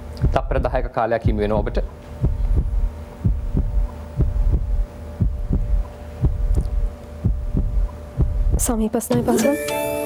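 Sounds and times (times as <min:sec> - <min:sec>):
steady hum: 0:00.0 - 0:10.0
low double thumps: 0:00.1 - 0:08.9.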